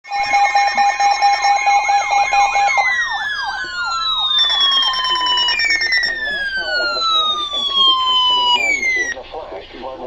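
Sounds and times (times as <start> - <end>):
higher electronic beeping: 0.0 - 9.2
rapid electronic beeping: 0.0 - 9.2
siren yelp wail: 0.0 - 9.2.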